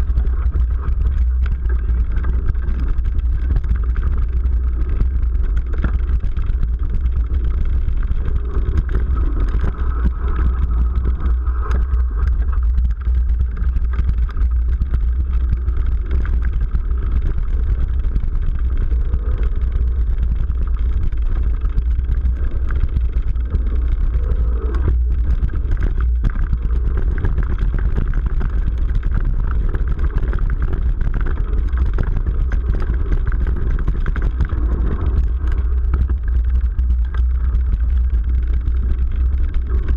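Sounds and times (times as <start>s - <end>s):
bike rattles and knocks: 0.0s - 39.9s
wind and tyres rumble: 0.0s - 39.9s.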